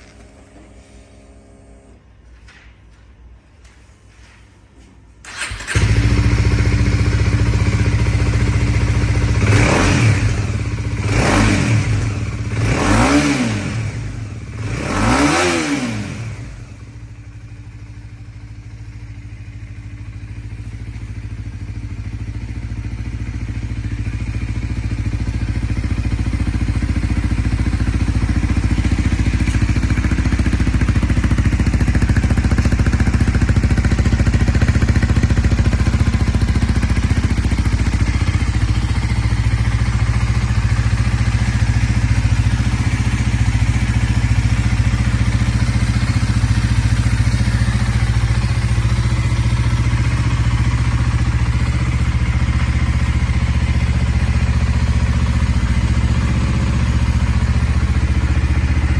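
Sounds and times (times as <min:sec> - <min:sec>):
motorcycle engine idling and revving: 0:00.0 - 0:02.1, 0:05.2 - 0:58.9.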